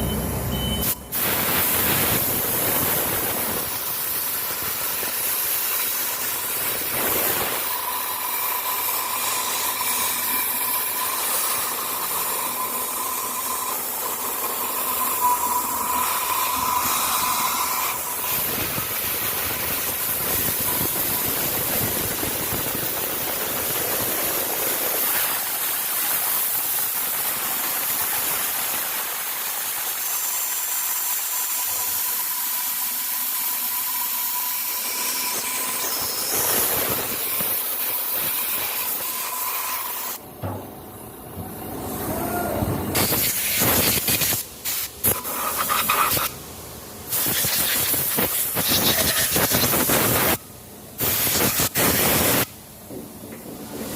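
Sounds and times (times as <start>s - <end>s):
noisy bursts: 0.0s - 29.8s, 34.5s - 53.9s
loud hiss: 0.8s - 40.2s, 41.9s - 52.9s.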